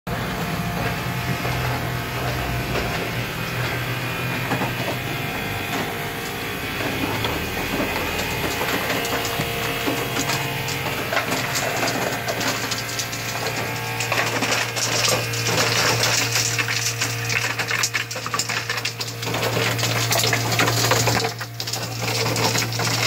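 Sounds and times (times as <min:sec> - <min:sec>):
ice maker humming: 0:00.1 - 0:23.0
ice clicks and rattles: 0:00.6 - 0:23.0.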